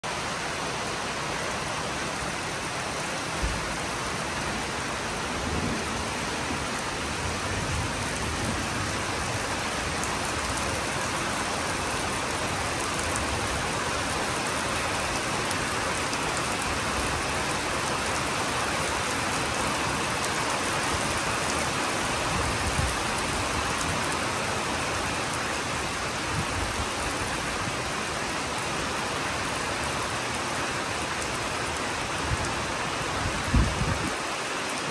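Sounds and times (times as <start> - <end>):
rain falling on leaves: 0.0 - 34.9.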